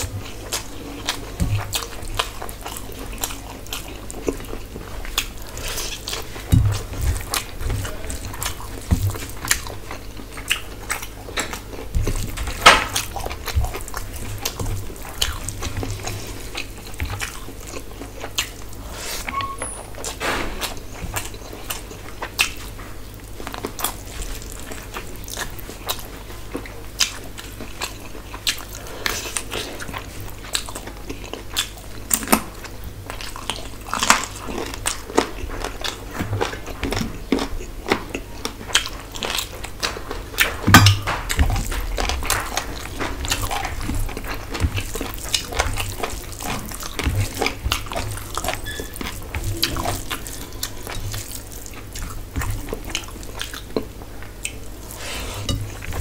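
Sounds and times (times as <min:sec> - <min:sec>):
person chewing and smacking: 0:00.0 - 0:56.0.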